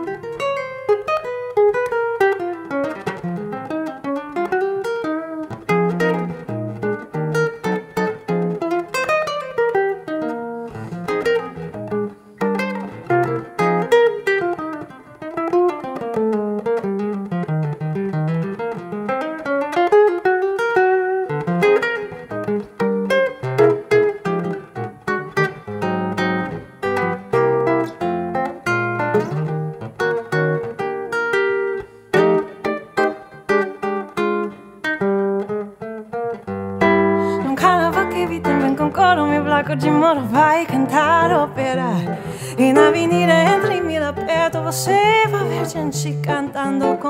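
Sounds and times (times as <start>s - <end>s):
solo guitar playing samba: 0.0s - 47.0s.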